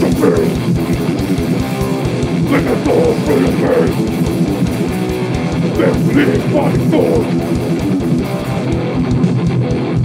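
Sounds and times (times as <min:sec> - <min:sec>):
distorted electric guitar riffing: 0:00.0 - 0:10.0
fast kick-drum beat: 0:00.0 - 0:10.0.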